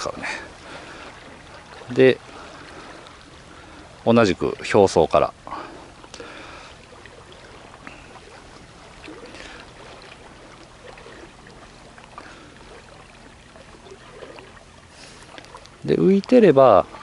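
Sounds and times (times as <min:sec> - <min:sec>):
sea water lapping on rocks: 0:00.0 - 0:17.0
small water splashes: 0:00.0 - 0:17.0.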